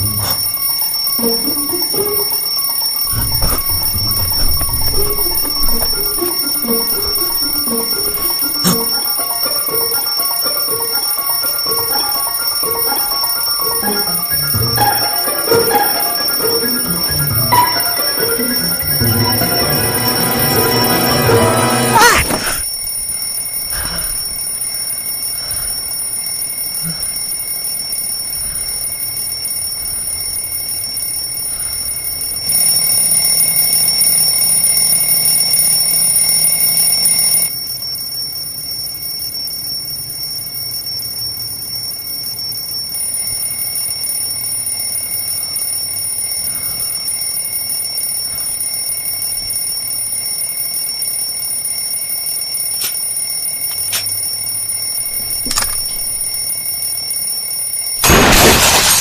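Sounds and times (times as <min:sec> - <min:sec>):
alarm clock ringing: 0:00.0 - 0:59.0.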